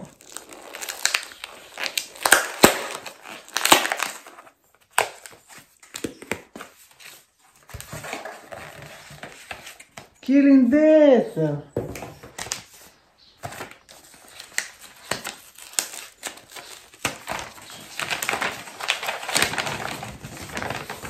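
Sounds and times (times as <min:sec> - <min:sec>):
paper and packaging rustling: 0:00.0 - 0:10.5, 0:11.7 - 0:21.0.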